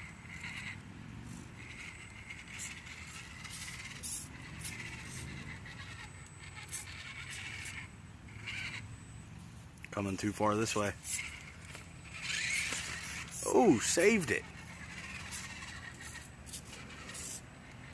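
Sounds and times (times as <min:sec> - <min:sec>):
toy car motor whining: 0:00.0 - 0:17.9.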